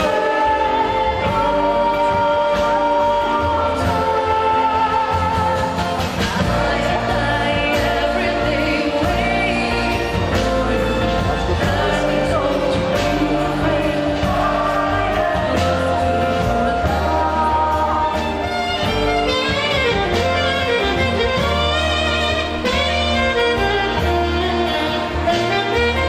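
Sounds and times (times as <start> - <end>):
woman singing: 0.0 - 22.3
man singing: 0.0 - 22.8
acoustic guitar: 0.0 - 26.0
clarinet: 0.0 - 26.0
double bass: 0.0 - 26.0
violins: 0.0 - 26.0.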